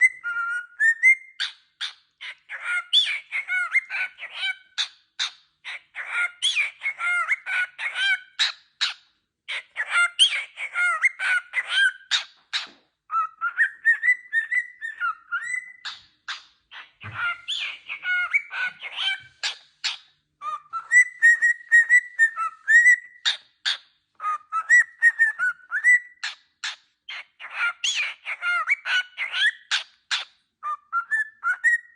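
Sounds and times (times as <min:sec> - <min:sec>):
bird chirping and whistling: 0:00.0 - 0:31.9.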